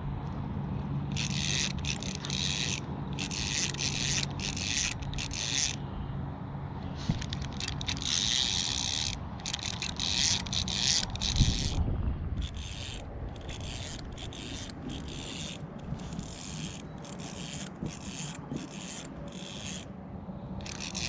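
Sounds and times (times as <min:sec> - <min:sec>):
fishing reel gears whirring: 0:00.9 - 0:05.9, 0:07.0 - 0:20.0, 0:20.6 - 0:21.0.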